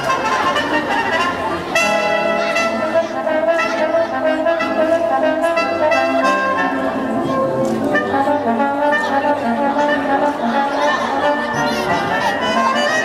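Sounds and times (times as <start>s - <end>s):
brass music melody: 0.0s - 13.0s.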